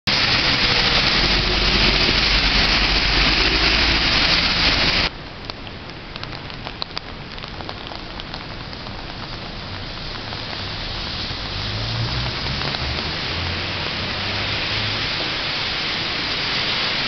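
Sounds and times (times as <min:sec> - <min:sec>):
rain falling: 0:00.1 - 0:17.0
water drips: 0:00.6 - 0:17.0.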